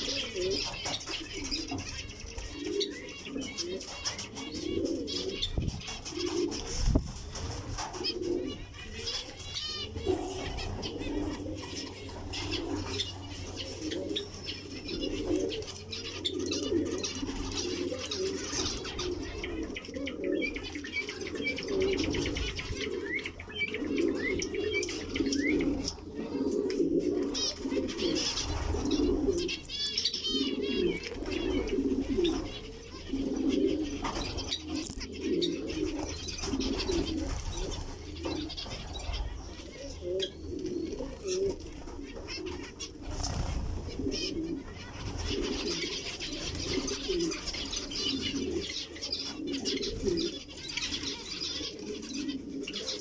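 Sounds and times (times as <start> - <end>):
doves cooing: 0.0 - 53.0
small birds chirping: 0.0 - 53.0.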